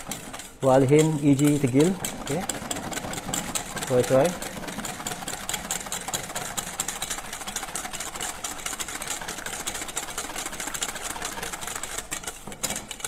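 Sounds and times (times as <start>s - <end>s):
whisk beating in a metal bowl: 0.0s - 13.0s.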